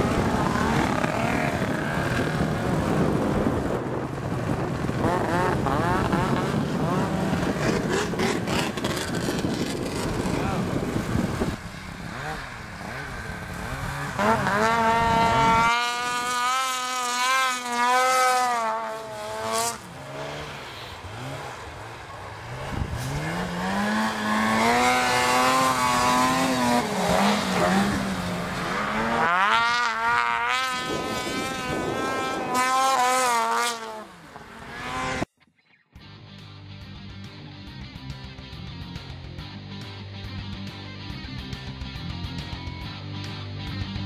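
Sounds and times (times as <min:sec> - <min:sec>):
snowmobile engines running hard: 0:00.0 - 0:35.3.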